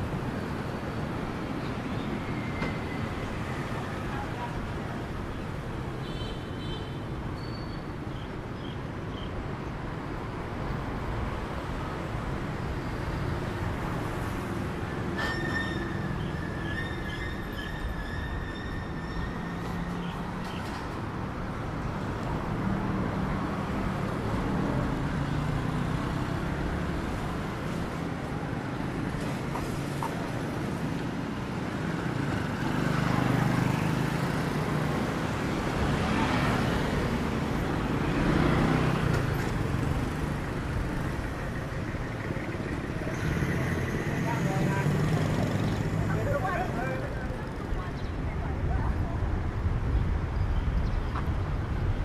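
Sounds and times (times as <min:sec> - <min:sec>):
street traffic: 0:00.0 - 0:52.0
vehicles passing close: 0:08.0 - 0:52.0.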